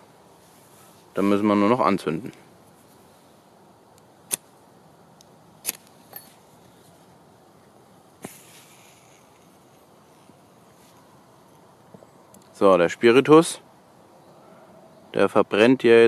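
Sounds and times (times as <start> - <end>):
soft hiss of igniting spirit: 0.0 - 14.2.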